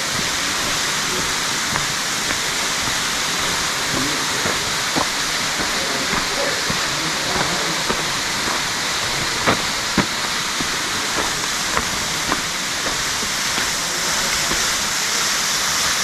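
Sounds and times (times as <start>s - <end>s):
waterfall rushing: 0.0s - 16.0s
footsteps on rock: 0.1s - 14.9s.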